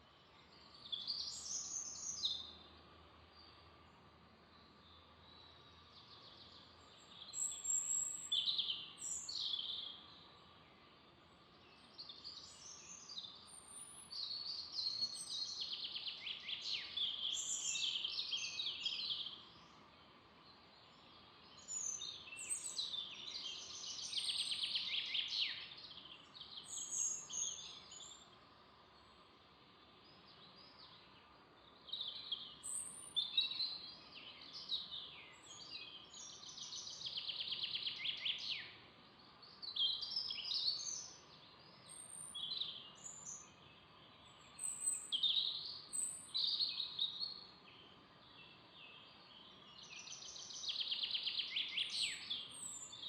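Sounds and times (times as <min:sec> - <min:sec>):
faint background hiss: 0:00.0 - 0:53.0
songbirds singing and chirping: 0:00.0 - 0:53.0.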